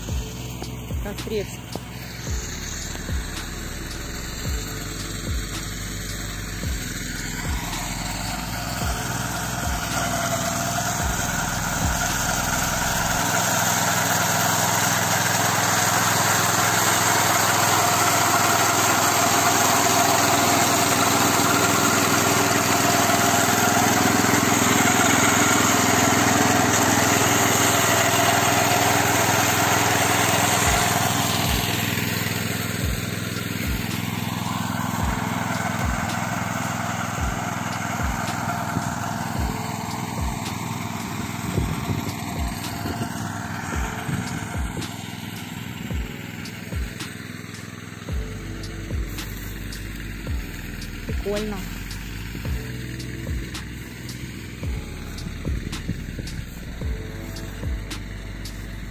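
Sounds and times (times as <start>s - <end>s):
rotary mower cutting grass: 0.0s - 58.9s
tractor engine running under load: 0.0s - 58.9s.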